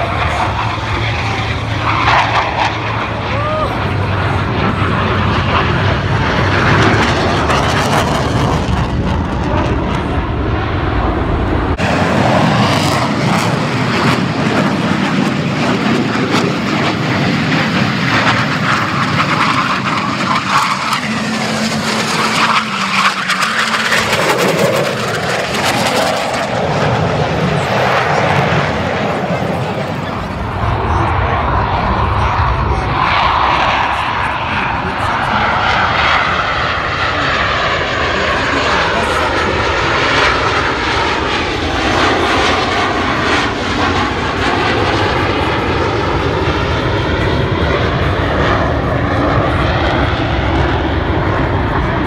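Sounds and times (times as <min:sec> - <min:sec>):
jet roar: 0:00.0 - 0:52.0.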